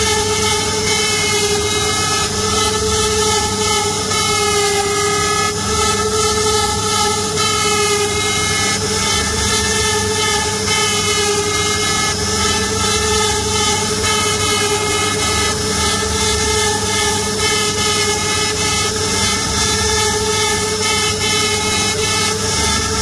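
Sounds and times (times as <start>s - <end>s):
hiss of bit cutting wood: 0.0s - 23.0s
router spindle whining: 0.0s - 23.0s.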